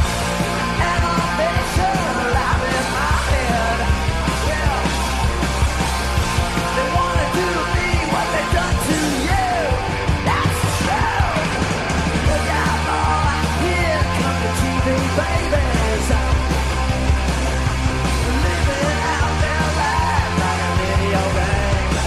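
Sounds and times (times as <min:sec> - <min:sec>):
bass guitar: 0:00.0 - 0:22.0
distorted electric guitar: 0:00.0 - 0:22.0
drums playing: 0:00.0 - 0:22.0.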